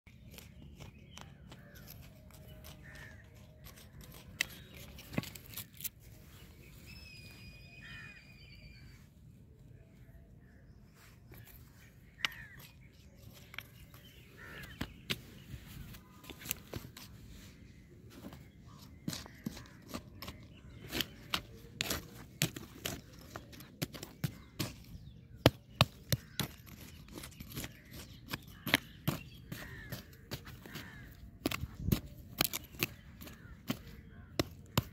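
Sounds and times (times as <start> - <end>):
dry soil crunching and scraping: 0.1 - 34.9.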